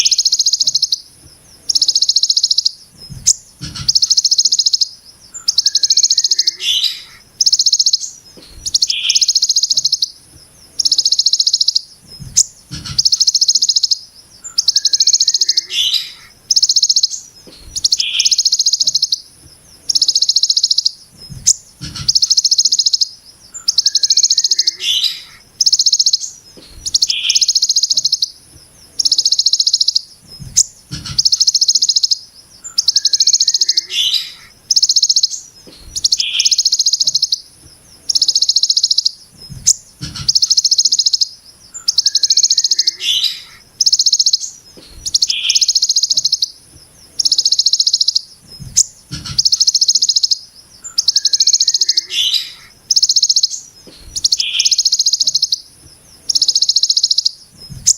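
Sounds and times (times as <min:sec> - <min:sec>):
bird high buzzing song: 0:00.0 - 0:57.9
bird low chirps: 0:00.0 - 0:57.9.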